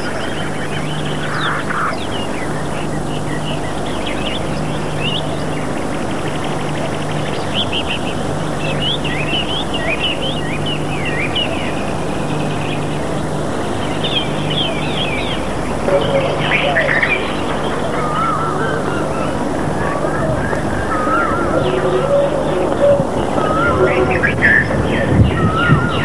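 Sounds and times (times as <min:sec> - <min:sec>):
birds chirping: 0:00.0 - 0:26.0
low hum: 0:00.0 - 0:26.0.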